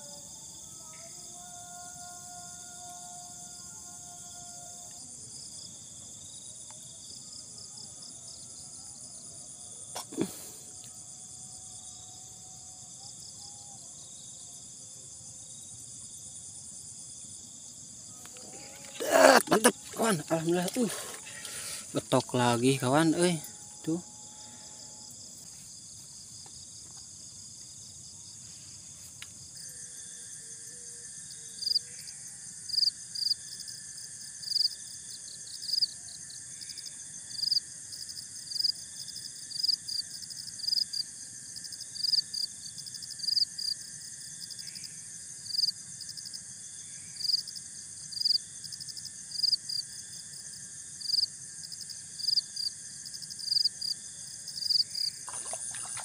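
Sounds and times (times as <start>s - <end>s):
crickets buzzing: 0.0s - 56.0s
insect chirp: 0.0s - 56.0s.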